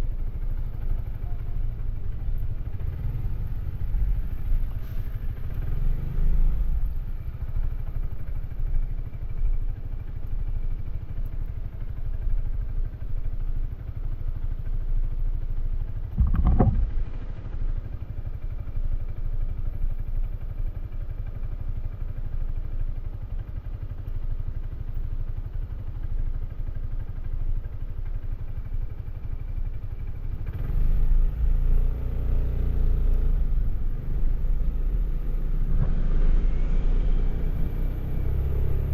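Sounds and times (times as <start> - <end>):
road and wind noise: 0.0 - 38.9
scooter engine running: 0.0 - 38.9.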